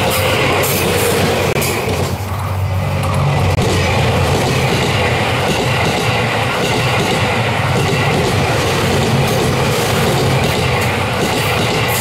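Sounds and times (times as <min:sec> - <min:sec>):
diesel train passing: 0:00.0 - 0:12.0.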